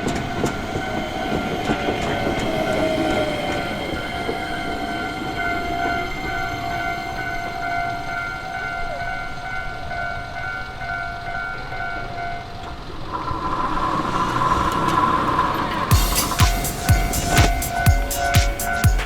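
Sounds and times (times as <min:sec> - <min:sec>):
level-crossing bell dinging: 0:00.0 - 0:19.0.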